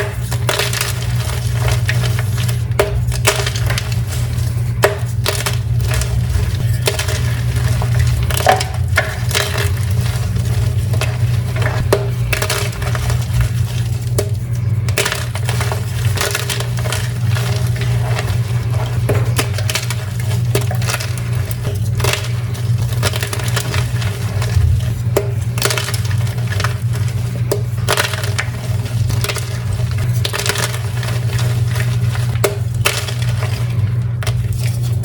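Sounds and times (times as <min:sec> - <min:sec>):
chalk crunching and crackling: 0:00.0 - 0:35.0
steady low hum: 0:00.0 - 0:35.0.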